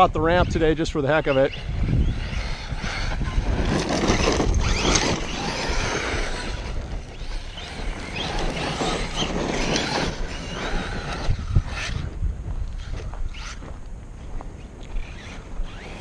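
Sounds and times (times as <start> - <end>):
wind rumble on microphone: 0.0 - 16.0
toy truck electric motor whining: 1.5 - 13.6, 14.8 - 16.0.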